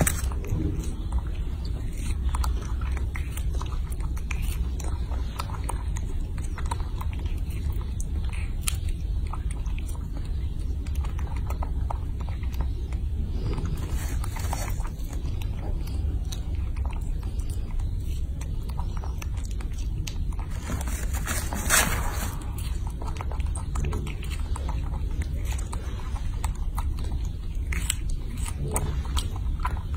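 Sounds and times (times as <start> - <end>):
monkey chewing and smacking: 0.0 - 29.9
steady low hum: 0.0 - 29.9.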